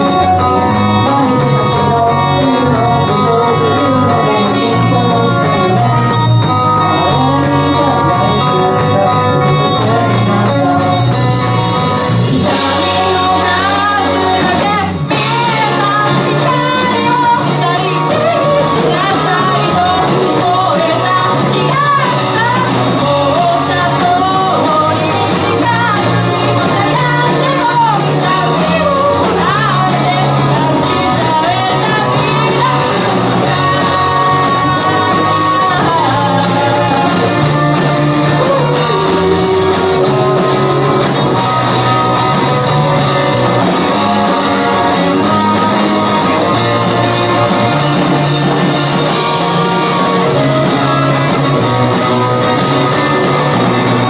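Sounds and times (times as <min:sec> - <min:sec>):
bass guitar: 0:00.0 - 0:54.0
drum kit: 0:00.0 - 0:54.0
electric guitar: 0:00.0 - 0:54.0
lead vocal singing: 0:00.0 - 0:54.0.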